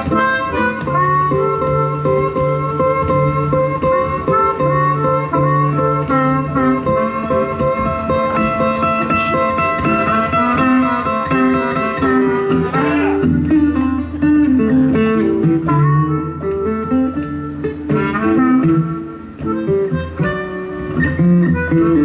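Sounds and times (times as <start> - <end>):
acoustic guitars playing blues: 0.0 - 22.0.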